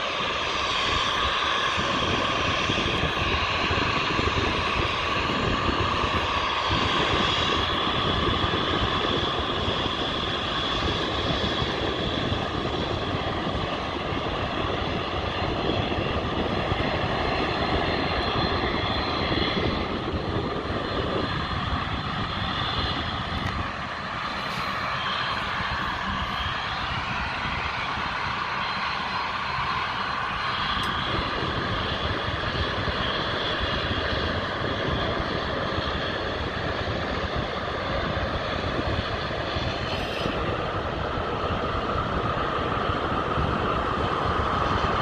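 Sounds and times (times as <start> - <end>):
high engine whine: 0.0 - 45.0
jet engines roaring: 0.0 - 45.0.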